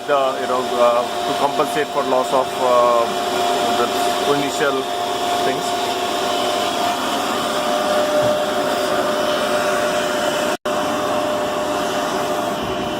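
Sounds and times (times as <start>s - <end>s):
whirring fan-like machinery: 0.0s - 12.9s.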